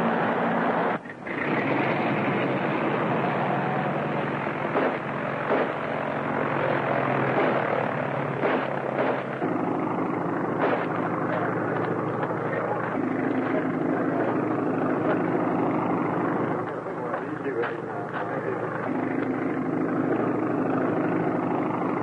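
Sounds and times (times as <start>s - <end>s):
vehicle engine drone: 0.0s - 22.0s.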